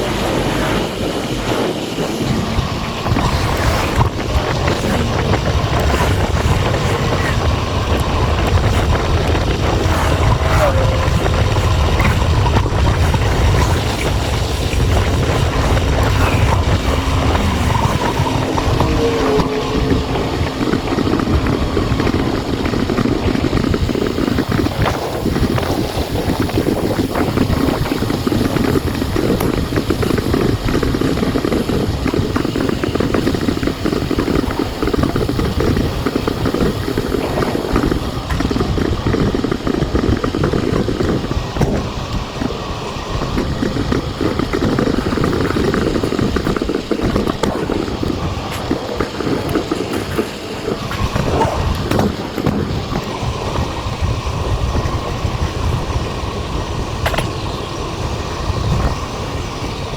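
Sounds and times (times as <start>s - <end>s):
bicycle road noise: 0.0s - 59.9s
wind buffeting microphone: 0.0s - 59.9s.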